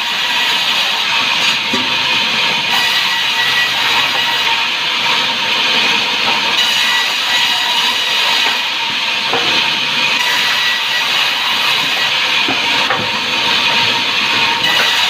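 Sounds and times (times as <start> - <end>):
saw cutting timber: 0.0 - 15.0.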